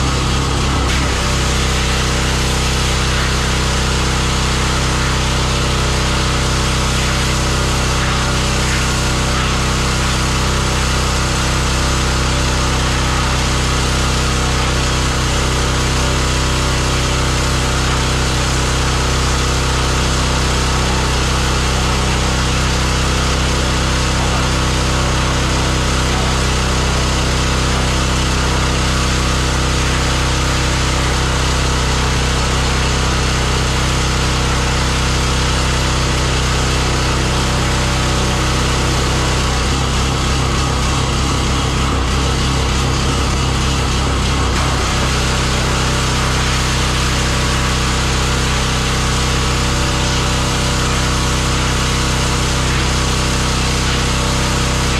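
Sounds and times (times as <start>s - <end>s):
pressure washer running: 0.0s - 54.9s.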